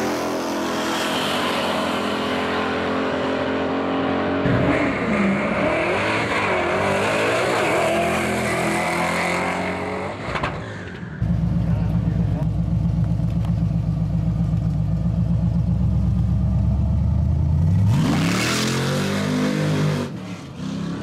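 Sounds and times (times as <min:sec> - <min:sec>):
drag race car engines full throttle: 0:00.0 - 0:13.6, 0:15.6 - 0:21.0.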